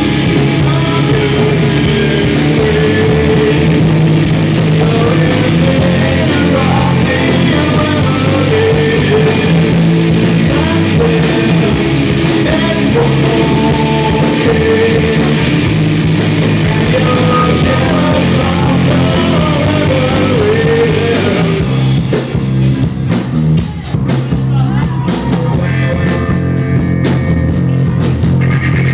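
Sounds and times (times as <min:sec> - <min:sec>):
live rock band with electric guitars: 0:00.0 - 0:28.9.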